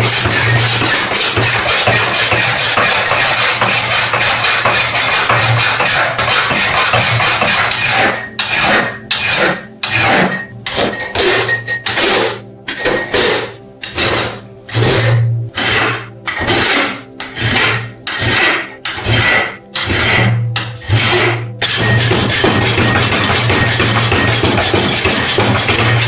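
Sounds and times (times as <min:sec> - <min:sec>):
hand file rasping on metal: 0:00.0 - 0:26.0.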